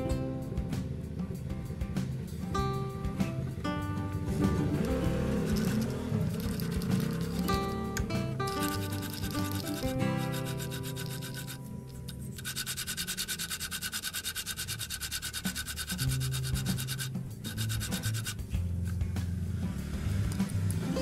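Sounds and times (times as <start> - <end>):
background music: 0.0 - 21.0
pulsed rubbing of spinning bearing: 3.3 - 20.8.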